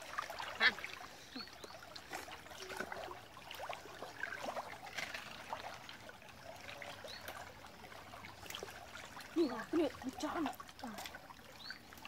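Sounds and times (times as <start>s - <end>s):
creek water sloshing and trickling: 0.0s - 12.0s
small water splashes: 0.0s - 12.0s.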